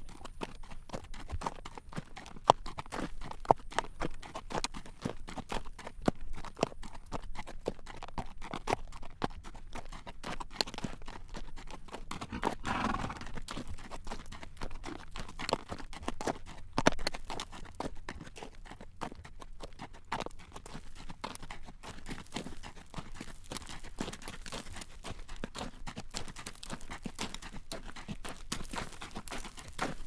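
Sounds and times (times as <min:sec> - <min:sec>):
horse hooves clacking on road: 0:00.0 - 0:30.0.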